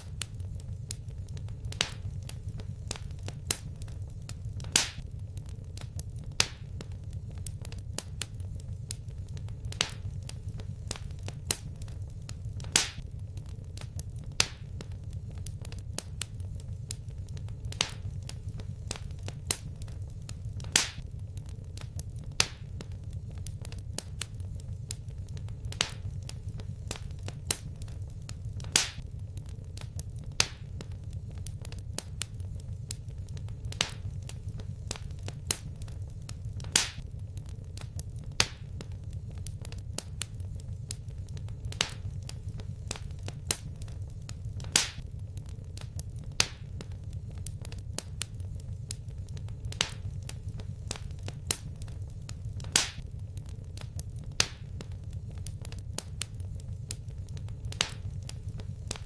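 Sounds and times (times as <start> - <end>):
sharp pops of burning wood: 0.0 - 59.0
wood fire crackling: 0.0 - 59.0.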